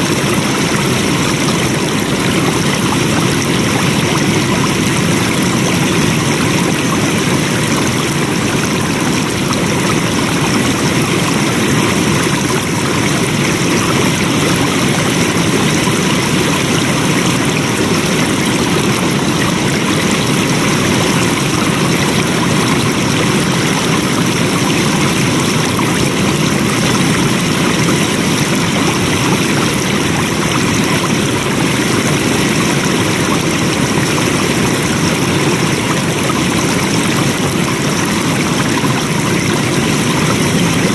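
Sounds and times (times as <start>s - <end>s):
stream rushing: 0.0s - 40.9s.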